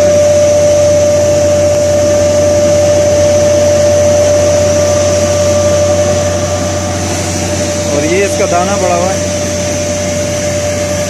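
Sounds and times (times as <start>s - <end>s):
film extruder machine whirring: 0.0s - 11.0s.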